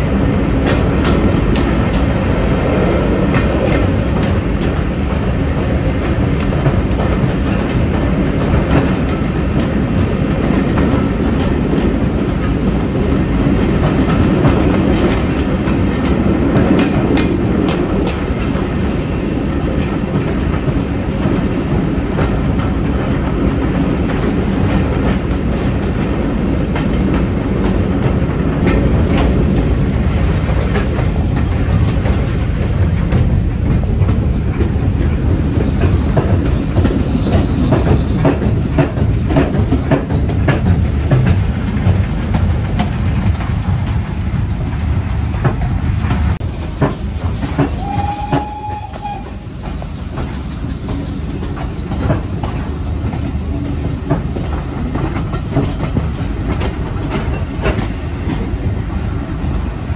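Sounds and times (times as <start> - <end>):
echoing rumble of train wheels: 0.0 - 59.9.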